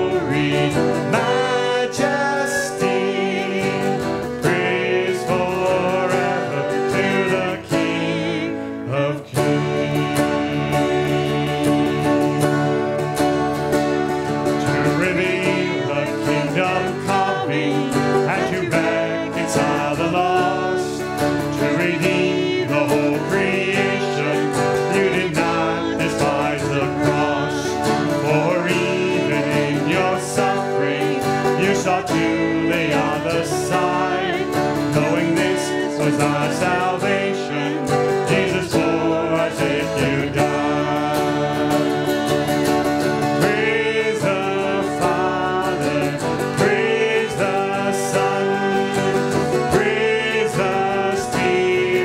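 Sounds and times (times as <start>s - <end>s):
acoustic guitar strumming: 0.0s - 52.0s
people singing worship song: 0.0s - 52.0s.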